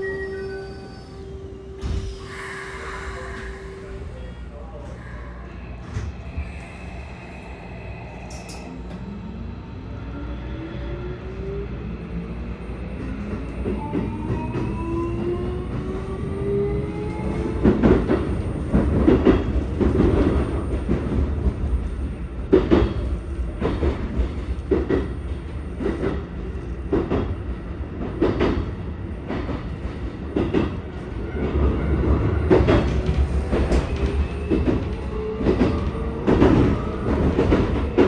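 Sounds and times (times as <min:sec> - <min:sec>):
train running rumble: 0:01.4 - 0:10.3, 0:11.0 - 0:38.0.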